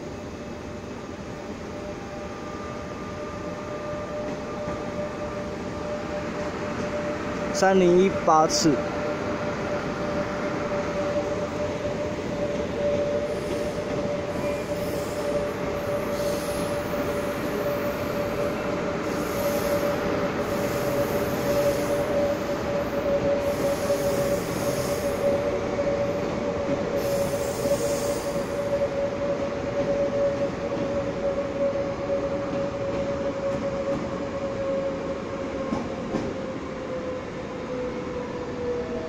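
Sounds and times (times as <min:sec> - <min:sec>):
train wheels squealing: 0:01.4 - 0:39.0.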